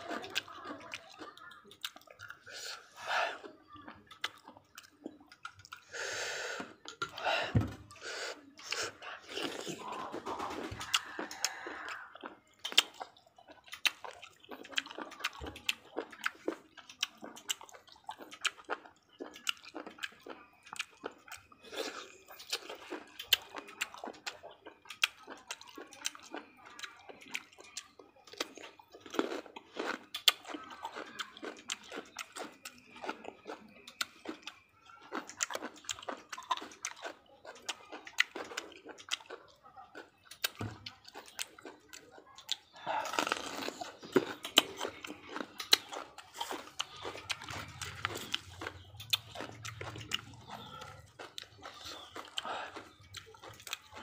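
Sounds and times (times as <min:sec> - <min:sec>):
person crunching raw vegetables: 0:00.0 - 0:54.0.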